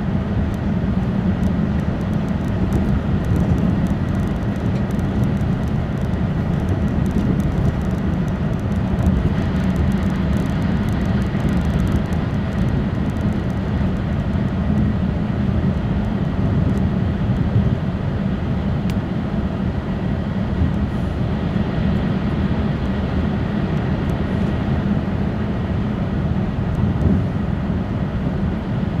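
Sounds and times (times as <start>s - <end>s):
train interior running noise: 0.0s - 29.0s.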